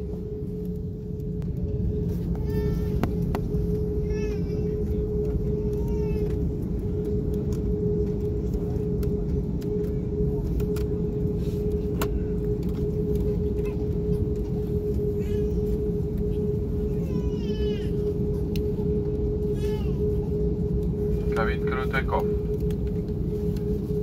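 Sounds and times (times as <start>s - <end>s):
aircraft cabin low rumble: 0.0s - 24.0s.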